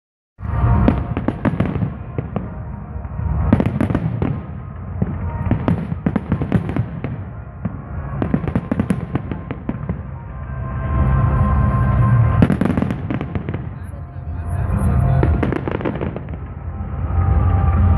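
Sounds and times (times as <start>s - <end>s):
fireworks bursts and bangs: 0.4s - 17.9s
low rumble: 0.4s - 17.9s.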